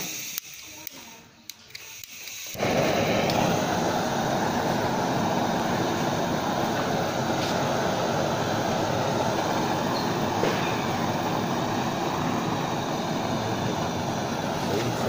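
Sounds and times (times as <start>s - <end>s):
gas torches hissing: 0.0s - 15.0s.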